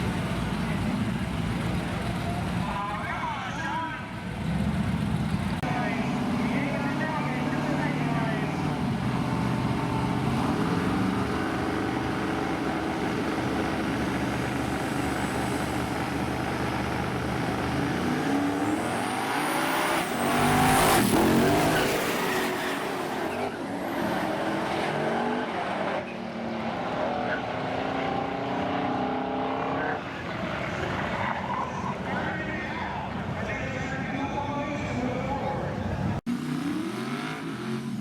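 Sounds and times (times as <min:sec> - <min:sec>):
drag racing truck engines: 0:00.0 - 0:38.0.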